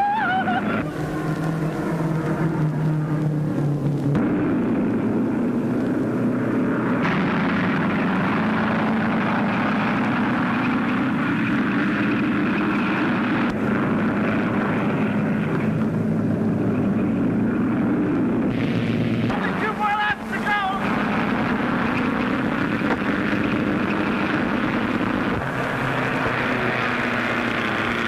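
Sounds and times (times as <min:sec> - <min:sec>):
racing car engines droning: 0:00.0 - 0:28.0.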